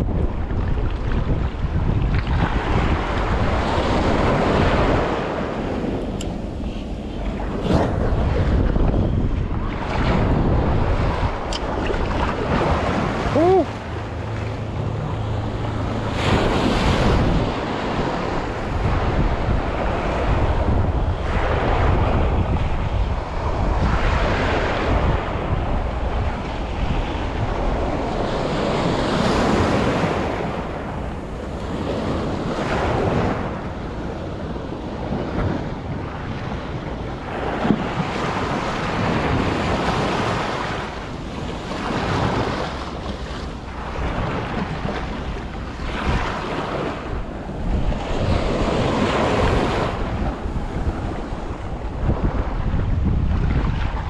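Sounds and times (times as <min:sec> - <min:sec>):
wind buffeting microphone: 0:00.0 - 0:54.0
small waves breaking: 0:00.2 - 0:22.3, 0:27.2 - 0:54.0.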